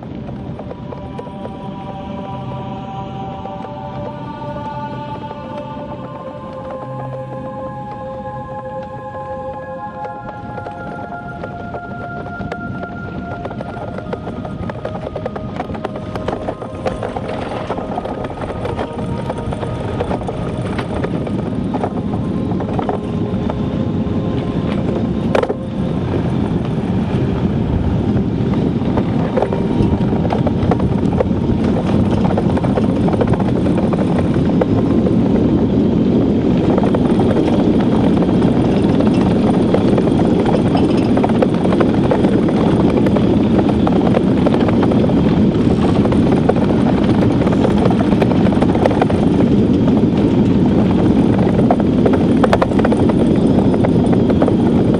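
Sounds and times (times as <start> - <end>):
steel runners rumbling on ice: 0.0 - 54.9
wind rush: 0.0 - 54.9.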